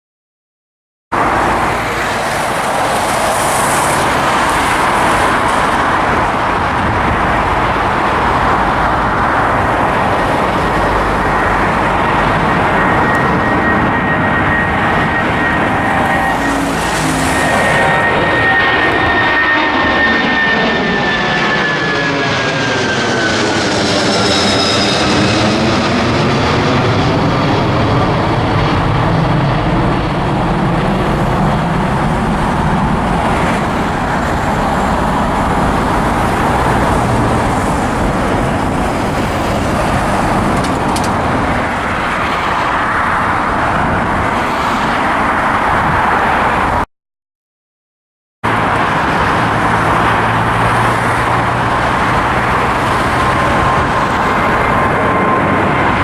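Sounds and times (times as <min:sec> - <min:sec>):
jet engine whine: 0:01.1 - 0:46.9, 0:48.4 - 0:56.0
jet engine rumble: 0:01.2 - 0:46.9, 0:48.5 - 0:56.0.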